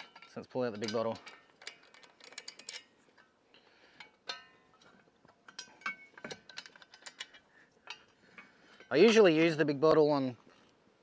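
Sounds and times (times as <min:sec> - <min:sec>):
metallic clicks and clinks: 0:00.0 - 0:03.3, 0:04.0 - 0:09.5.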